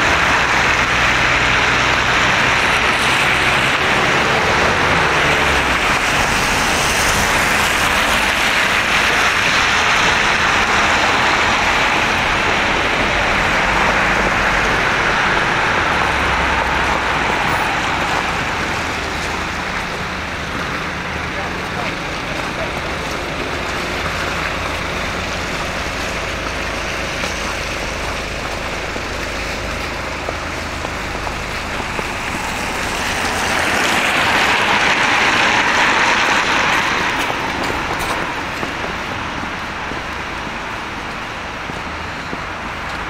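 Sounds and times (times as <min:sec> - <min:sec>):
tyres hissing on wet road: 0:00.0 - 0:43.0
van passing: 0:00.0 - 0:43.0.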